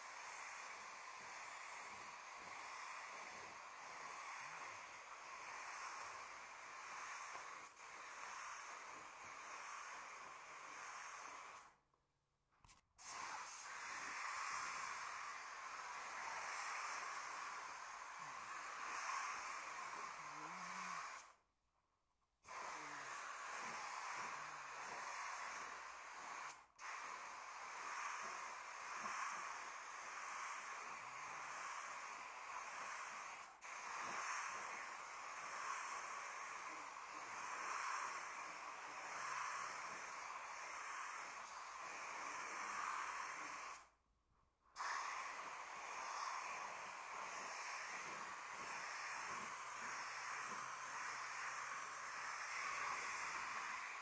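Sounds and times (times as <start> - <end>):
spray gun hissing: 0.0 - 11.8, 13.0 - 21.4, 22.4 - 43.9, 44.8 - 54.0.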